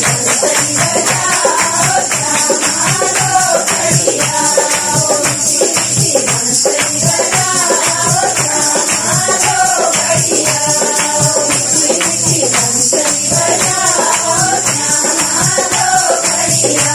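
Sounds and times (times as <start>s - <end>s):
hand-clapping: 0.0s - 16.9s
jingling percussion: 0.0s - 16.9s
women singing: 0.0s - 16.9s.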